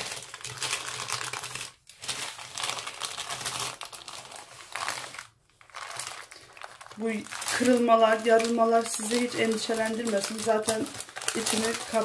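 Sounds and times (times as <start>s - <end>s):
baking paper crinkling: 0.0s - 12.0s.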